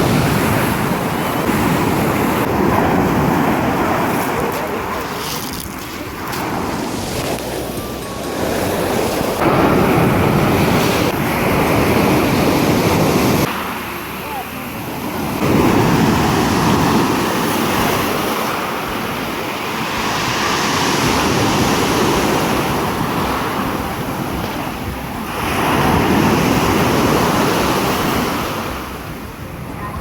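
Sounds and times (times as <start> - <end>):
sea waves washing onto shore: 0.0 - 30.0
wind buffeting microphone: 0.0 - 30.0.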